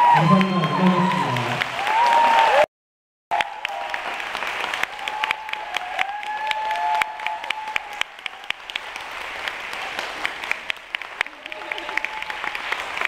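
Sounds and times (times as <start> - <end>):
audience applauding: 0.0 - 2.7, 3.3 - 13.0.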